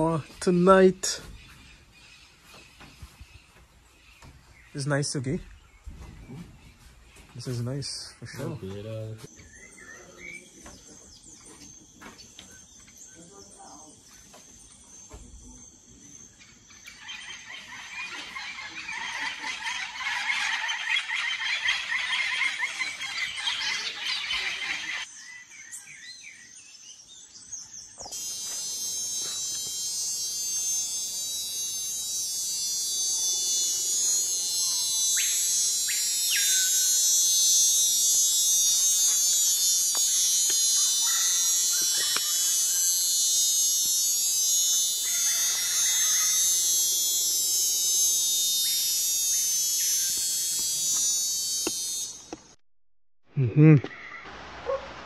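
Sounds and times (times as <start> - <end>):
insects buzzing: 0.0 - 52.6.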